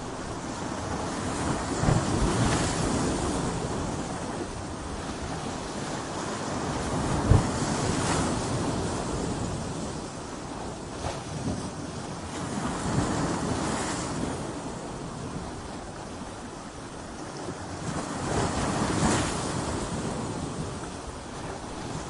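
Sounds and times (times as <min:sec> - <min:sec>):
sea waves crashing against rocks: 0:00.0 - 0:22.0.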